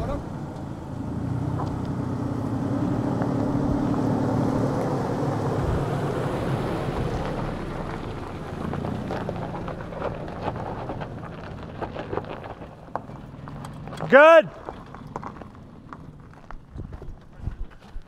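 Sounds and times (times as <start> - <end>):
pickup truck engine under load: 0.0 - 18.0.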